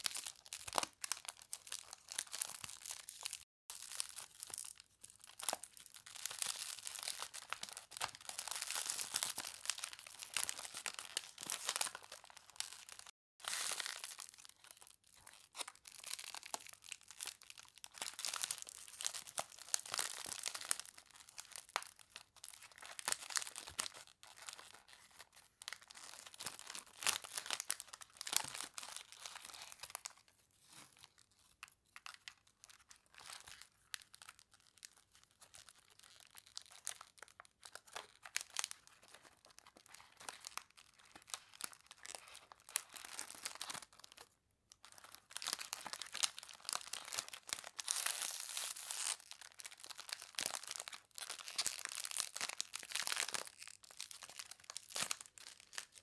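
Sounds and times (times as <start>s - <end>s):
cellophane bag crinkling: 0.0s - 30.2s, 30.9s - 56.0s.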